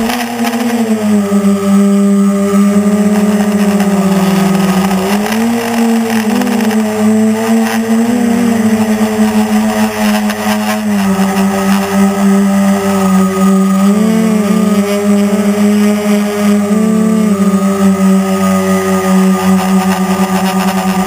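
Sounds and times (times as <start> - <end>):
drone motors buzzing: 0.0 - 21.0.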